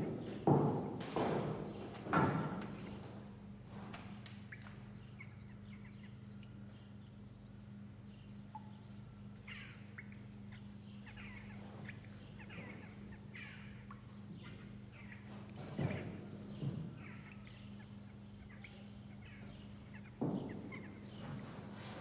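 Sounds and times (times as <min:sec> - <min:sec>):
faint birds chirping: 0:00.0 - 0:22.0
steady low hum: 0:00.0 - 0:22.0.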